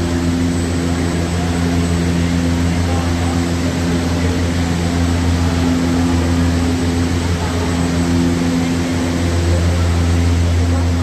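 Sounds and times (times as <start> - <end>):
low constant hum: 0.0 - 11.0.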